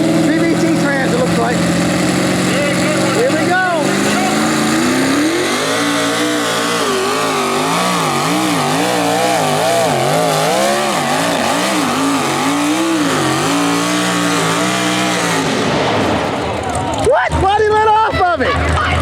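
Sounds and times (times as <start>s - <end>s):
tractor engine at high revs: 0.0s - 19.0s.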